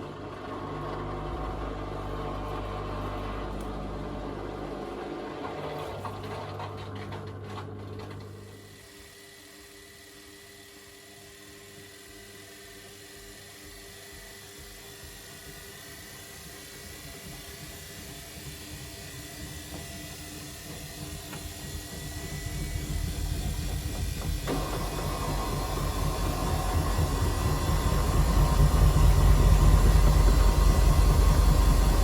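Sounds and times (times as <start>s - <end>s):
washing machine drum motor: 0.0s - 8.9s, 13.2s - 32.0s.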